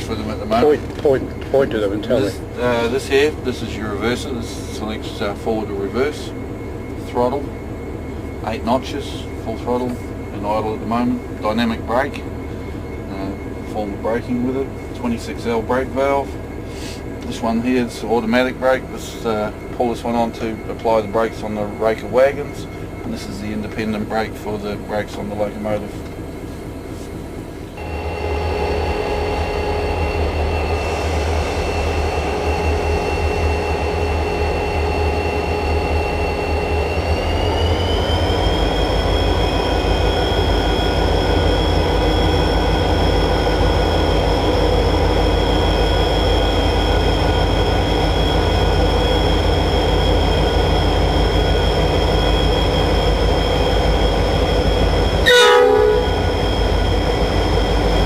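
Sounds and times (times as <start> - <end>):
high engine whine: 0.0 - 58.0
locomotive engine rumble: 0.0 - 58.0.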